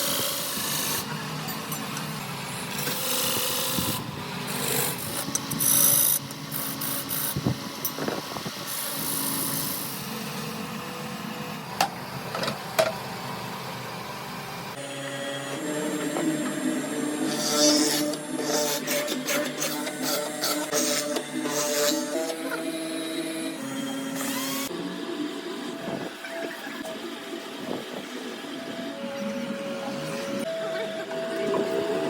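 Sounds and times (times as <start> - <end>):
power tool running: 0.0 - 11.8, 14.7 - 32.0.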